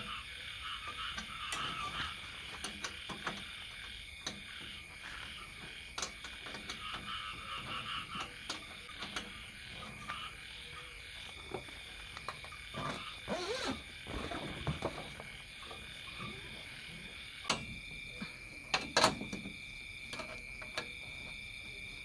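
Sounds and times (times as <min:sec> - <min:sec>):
frogs croaking: 0:00.0 - 0:22.0
night insects chirping: 0:00.0 - 0:22.0.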